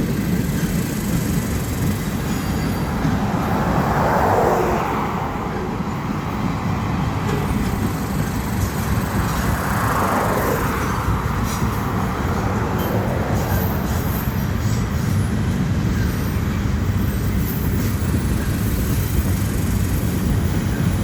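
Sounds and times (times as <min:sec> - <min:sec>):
freight cars rumbling past: 0:00.0 - 0:21.0.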